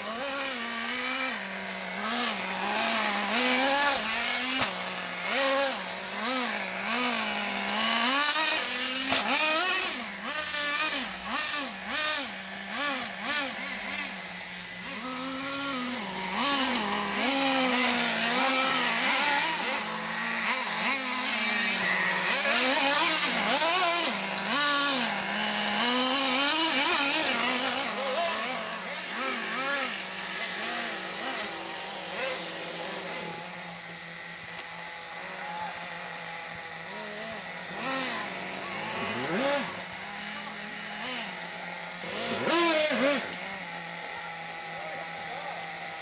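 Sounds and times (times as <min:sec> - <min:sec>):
small nitro engines revving: 0:00.0 - 0:46.0.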